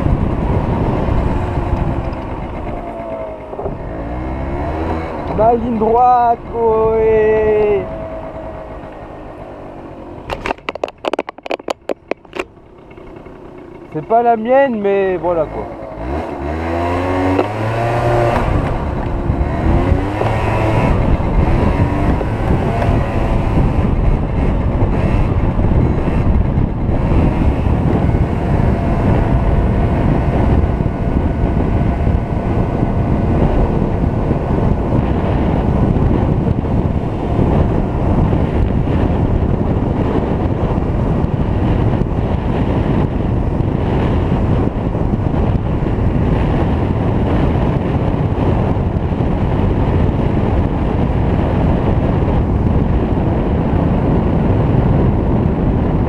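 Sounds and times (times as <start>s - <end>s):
scooter engine running: 0.0s - 56.0s
wind noise on microphone: 0.0s - 56.0s.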